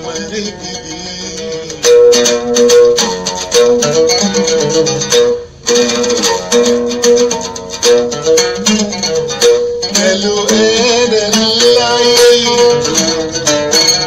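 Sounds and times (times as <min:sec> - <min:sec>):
oud plucked melody: 0:00.0 - 0:14.0.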